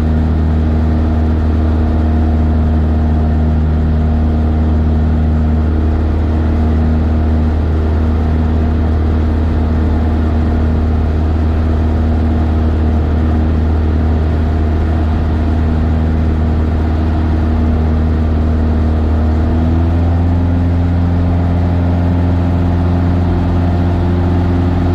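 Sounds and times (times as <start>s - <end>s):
propeller plane engine in flight: 0.0s - 24.9s.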